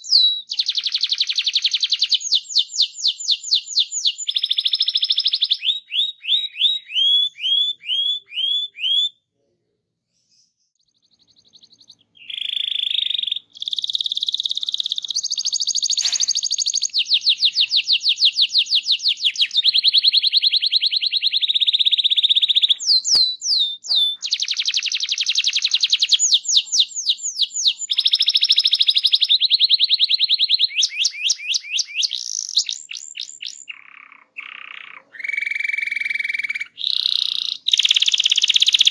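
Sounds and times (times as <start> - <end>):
canary singing trills: 0.0 - 9.2, 10.2 - 38.9.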